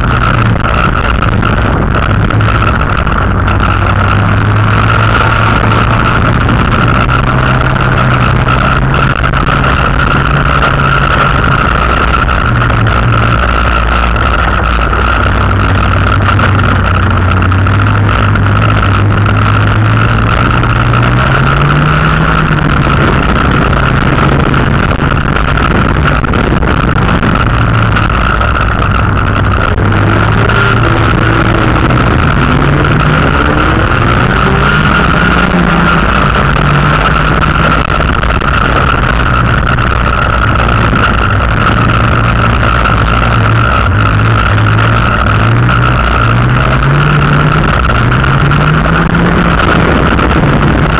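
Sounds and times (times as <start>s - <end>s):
car engine revving: 0.0s - 50.9s
high-pitched whine: 0.0s - 50.9s.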